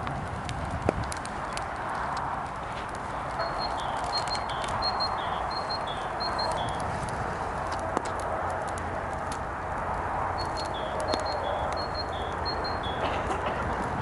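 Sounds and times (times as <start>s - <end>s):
campfire crackling and popping: 0.0s - 14.0s
wind: 0.0s - 14.0s.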